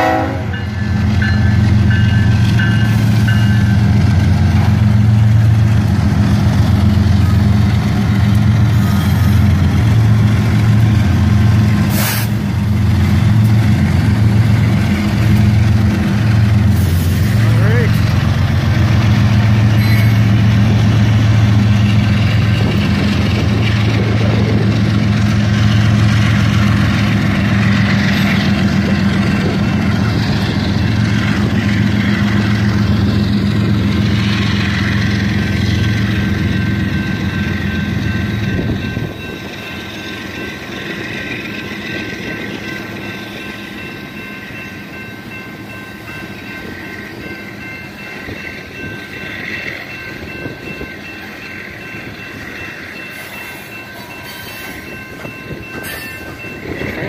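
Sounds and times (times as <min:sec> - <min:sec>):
locomotive engines rumbling: 0:00.0 - 0:57.0.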